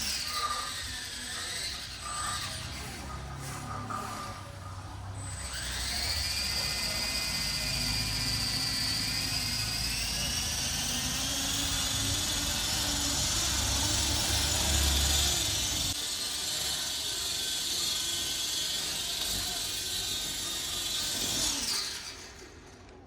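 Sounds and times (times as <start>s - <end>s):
electric motor and rotor whine: 0.0s - 23.0s.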